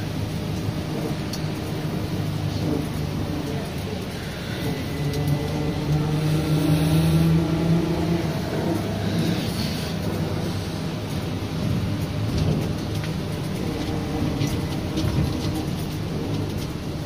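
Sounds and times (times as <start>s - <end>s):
road and tyre noise: 0.0s - 17.0s
electric traction drive humming: 1.6s - 17.0s.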